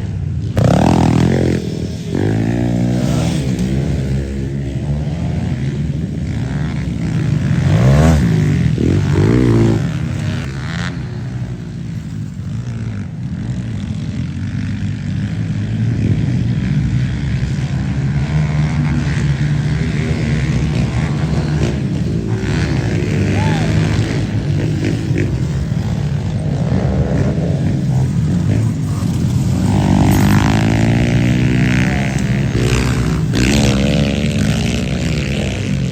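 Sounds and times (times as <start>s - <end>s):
motorbike engines revving: 0.0s - 35.9s.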